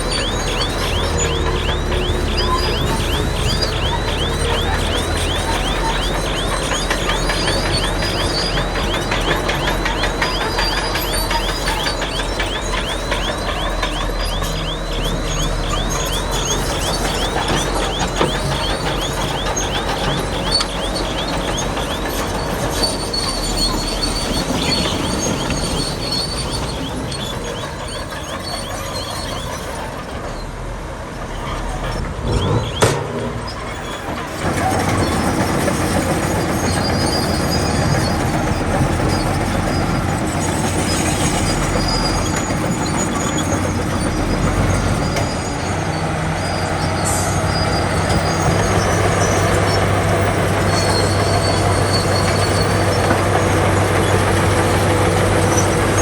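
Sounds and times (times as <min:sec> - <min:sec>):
bulldozer diesel engine running: 0:00.0 - 0:56.0
crawler tracks clanking and squeaking: 0:00.0 - 0:56.0.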